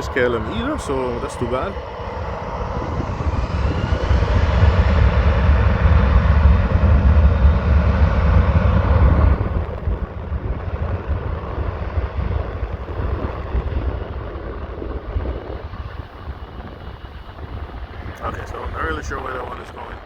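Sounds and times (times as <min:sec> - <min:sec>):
jet engines rumbling on takeoff: 0:00.0 - 0:20.0.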